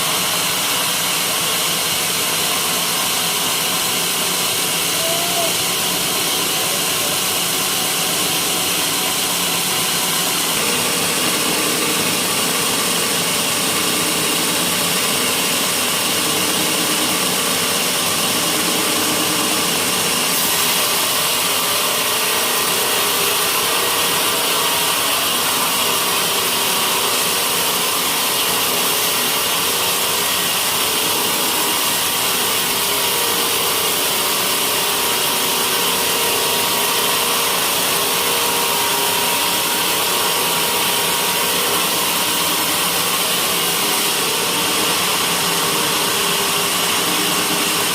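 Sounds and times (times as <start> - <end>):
saw blade cutting wood: 0.0 - 47.9.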